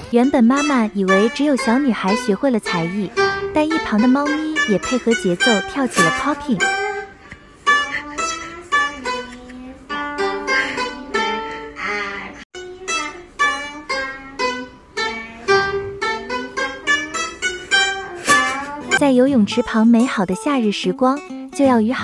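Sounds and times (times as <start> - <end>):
plucked lute melody: 0.0 - 22.0.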